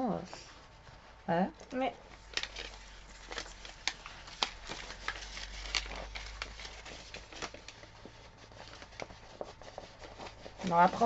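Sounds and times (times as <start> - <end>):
canvas sheet rustling and crackling: 0.0 - 11.0.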